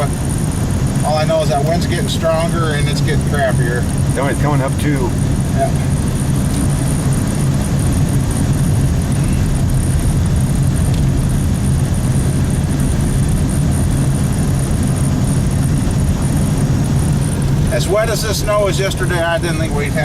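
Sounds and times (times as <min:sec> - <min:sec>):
truck engine hum and road noise: 0:00.0 - 0:20.0.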